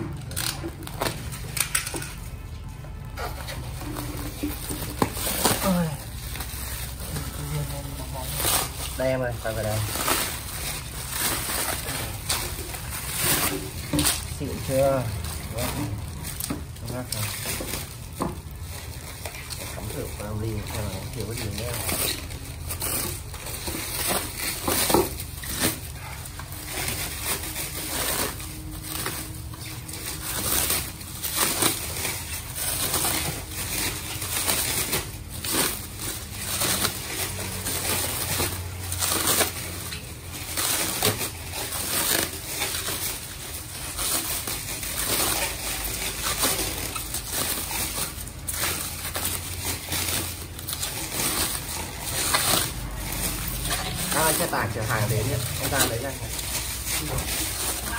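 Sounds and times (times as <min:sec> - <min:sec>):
plastic cling wrap crinkling: 0:00.0 - 0:57.9.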